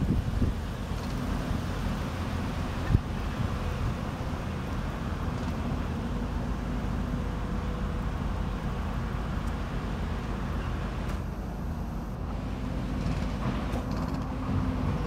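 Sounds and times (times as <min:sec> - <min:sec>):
heavy machinery engine rumble: 0:00.0 - 0:15.0.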